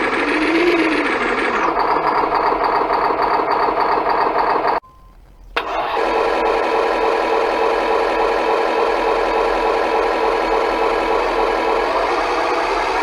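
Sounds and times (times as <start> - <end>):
engine idle sound from small speaker: 0.0 - 4.8, 5.6 - 13.0.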